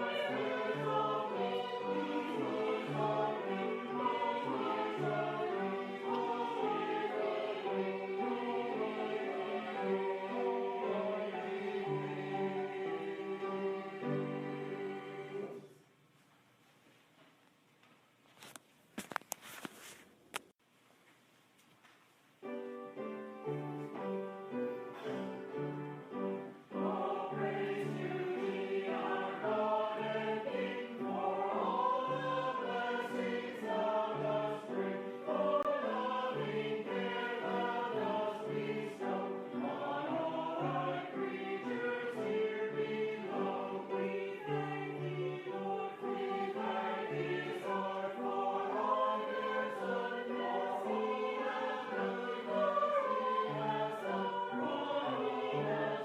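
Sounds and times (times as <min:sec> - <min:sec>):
piano accompaniment: 0:00.0 - 0:15.5, 0:22.4 - 0:56.0
choir singing a hymn: 0:00.0 - 0:15.8, 0:22.8 - 0:56.0.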